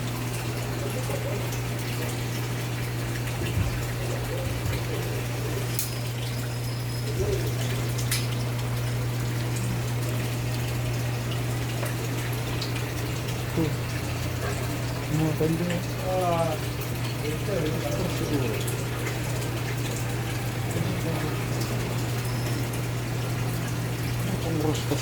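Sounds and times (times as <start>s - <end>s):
rushing water: 0.0s - 25.0s
water pump humming: 0.0s - 25.0s.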